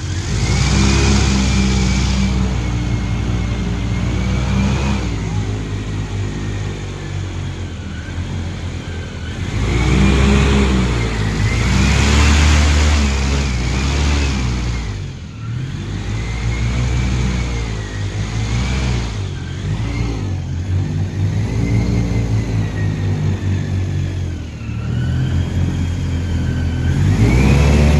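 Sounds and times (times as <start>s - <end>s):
airboat engine and propeller: 0.0s - 27.9s.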